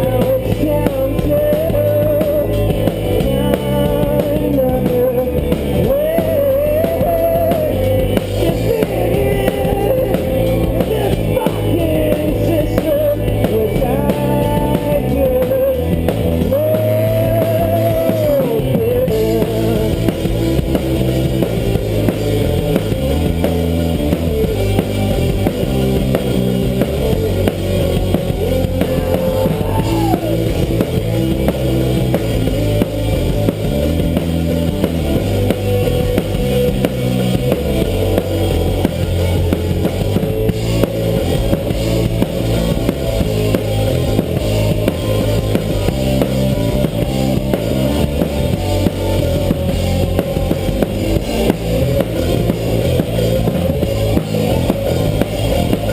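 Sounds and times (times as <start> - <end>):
gliding melodic lead line: 0.0 - 55.9
live rock band playing: 0.0 - 55.9.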